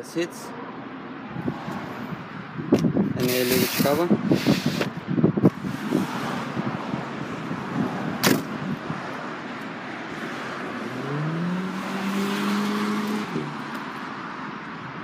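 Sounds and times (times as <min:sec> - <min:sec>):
outdoor traffic noise: 0:00.0 - 0:15.0.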